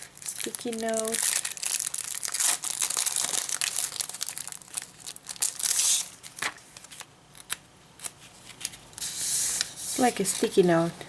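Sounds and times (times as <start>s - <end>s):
wrapper crinkling and rustling: 0.0s - 10.7s.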